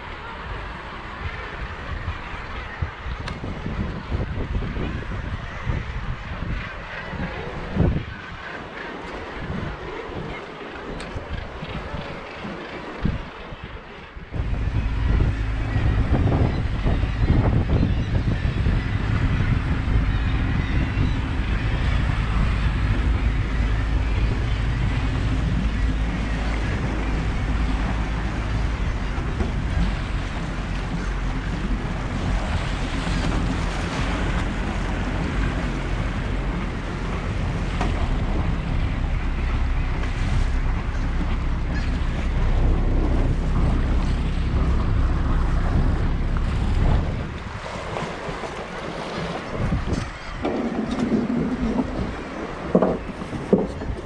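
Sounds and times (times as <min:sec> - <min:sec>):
boat engine droning: 0:00.0 - 0:54.0
water rushing past hull: 0:00.0 - 0:54.0
wind buffeting microphone: 0:00.0 - 0:54.0.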